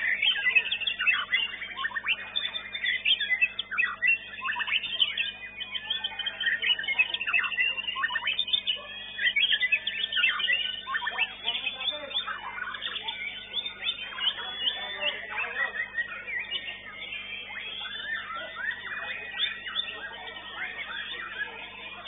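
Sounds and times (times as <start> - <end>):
birds singing whistles and trills: 0.0 - 22.0.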